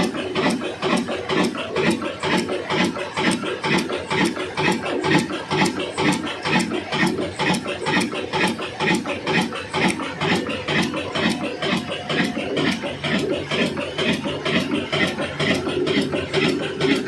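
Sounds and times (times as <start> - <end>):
diesel engine knocking: 0.0 - 17.0
mechanical clatter: 0.0 - 17.0.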